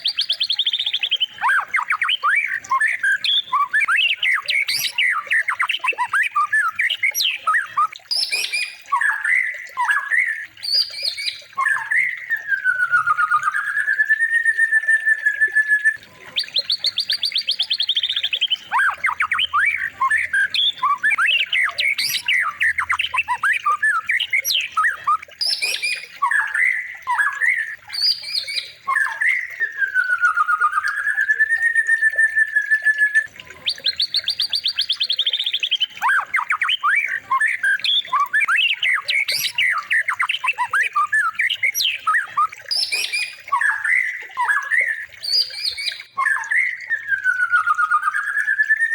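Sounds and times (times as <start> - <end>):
recorded songbird song: 0.0 - 48.9.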